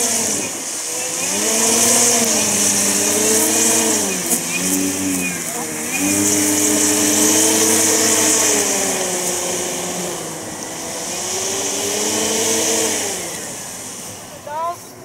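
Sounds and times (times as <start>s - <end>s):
model plane motors whirring: 0.0s - 15.0s.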